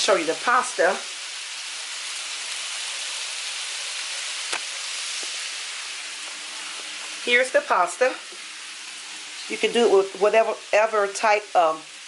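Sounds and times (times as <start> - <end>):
shrimp sizzling on a grill: 0.0 - 12.0.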